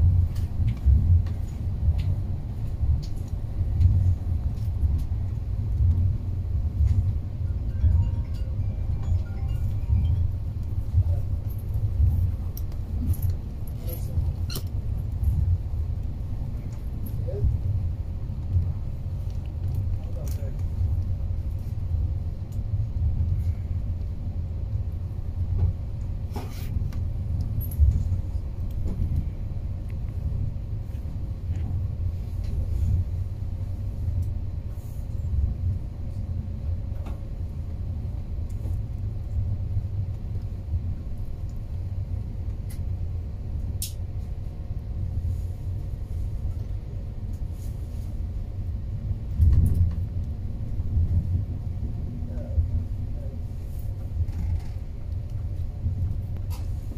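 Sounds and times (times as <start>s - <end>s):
train rumble inside carriage: 0.0s - 56.9s.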